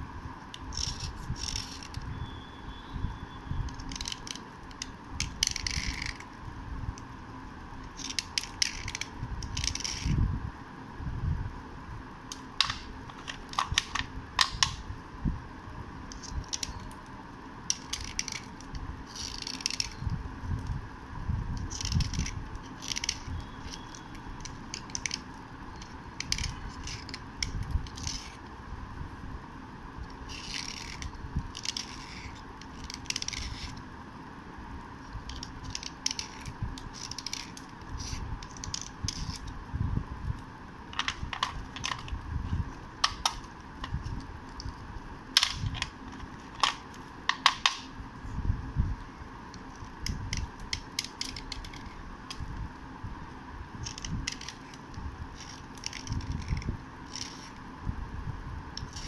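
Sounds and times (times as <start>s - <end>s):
faint background hum: 0.0s - 59.0s.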